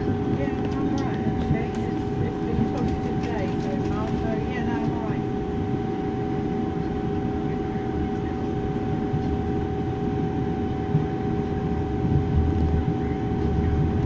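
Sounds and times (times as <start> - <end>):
droning hum: 0.0 - 14.0.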